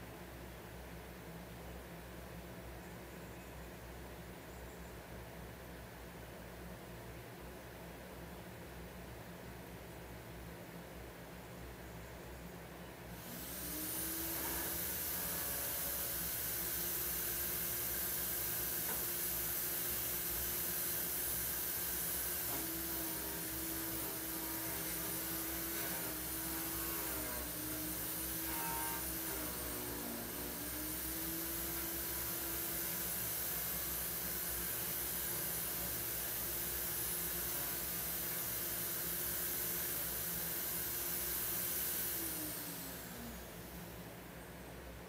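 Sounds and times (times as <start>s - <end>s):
room hum and hiss: 0.0s - 45.0s.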